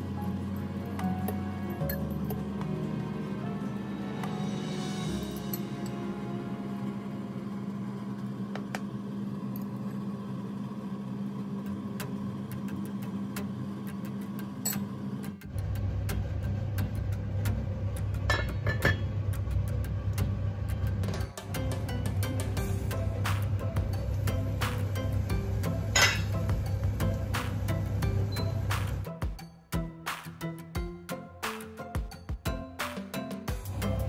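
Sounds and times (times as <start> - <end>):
low motor-like hum: 0.0 - 29.1, 33.6 - 34.0.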